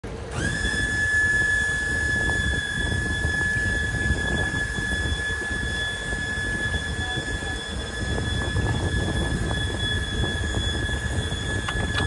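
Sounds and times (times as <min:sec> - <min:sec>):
hydraulic trim motors whining: 0:00.1 - 0:12.0.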